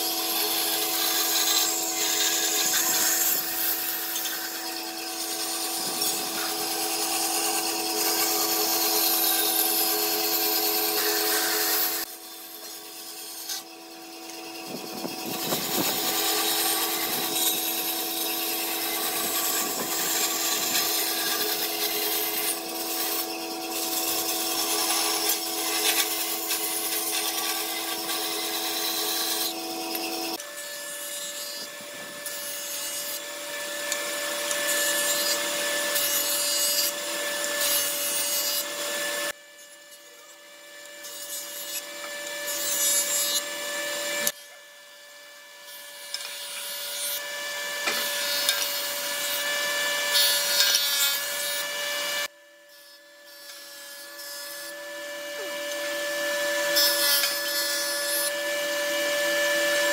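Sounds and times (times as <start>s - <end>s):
saw blades cutting wood: 0.0s - 59.9s.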